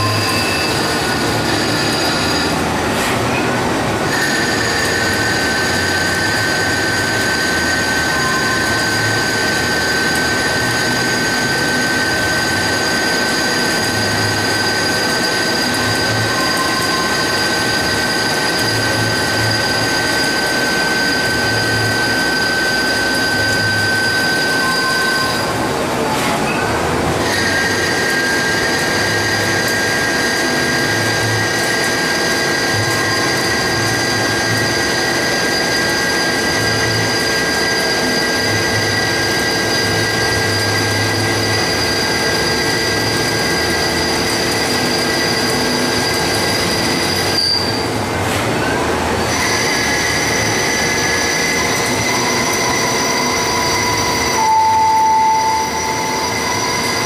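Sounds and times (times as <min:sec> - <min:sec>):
lathe cutting metal whine: 0:00.0 - 0:26.0, 0:26.7 - 0:57.0.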